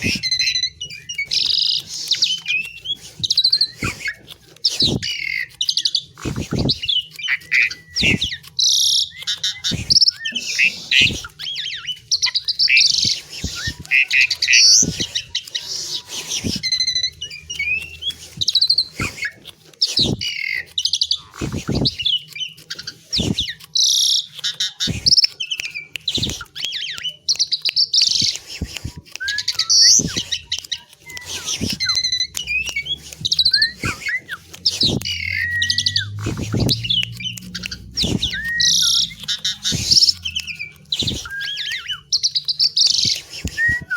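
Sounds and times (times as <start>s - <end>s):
bird singing chirps and whistles: 0.0s - 28.4s, 29.2s - 43.9s
sharp clicks: 0.0s - 43.9s.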